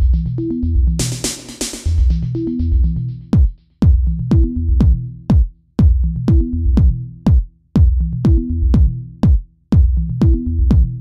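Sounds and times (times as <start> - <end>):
electronic drum machine music: 0.0 - 11.0
pulsing deep bass line: 0.0 - 11.0.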